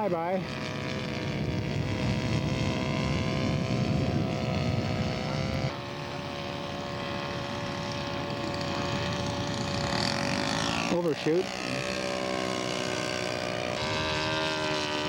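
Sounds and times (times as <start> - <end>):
model airplane engine buzzing: 0.0 - 15.0.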